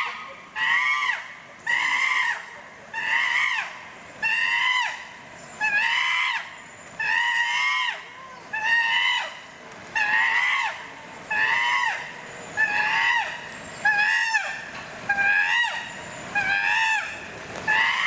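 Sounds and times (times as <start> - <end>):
chimpanzee high calls: 0.0 - 18.0.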